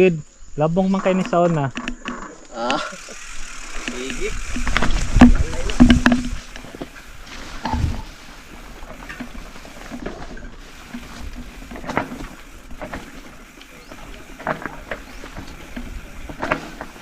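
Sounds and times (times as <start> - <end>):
bike tyres rolling on rocky trail: 0.8 - 17.0
bike knocks and rattles: 1.0 - 17.0.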